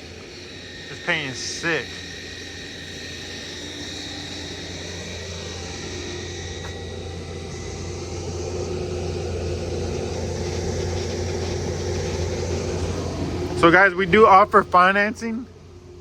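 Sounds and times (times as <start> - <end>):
constant low hum: 0.0 - 16.0
low mechanical rumble: 0.0 - 16.0.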